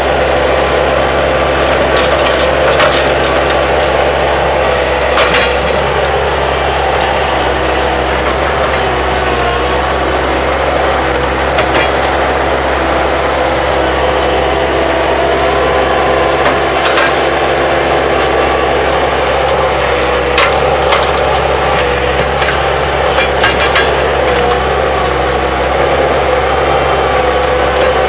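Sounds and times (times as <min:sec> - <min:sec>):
loader engine running under load: 0:00.0 - 0:28.0.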